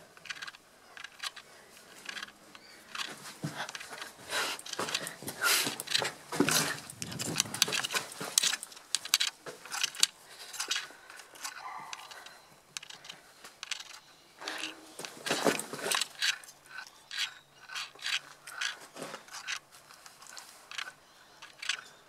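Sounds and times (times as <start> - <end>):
rustling handling noise: 0.0 - 22.0.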